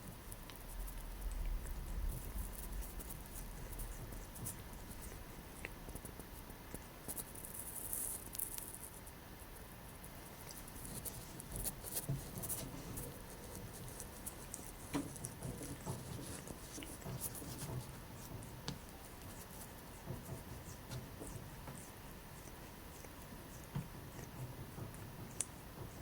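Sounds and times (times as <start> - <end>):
cat scratching and clicking: 0.1 - 8.9, 10.0 - 26.0.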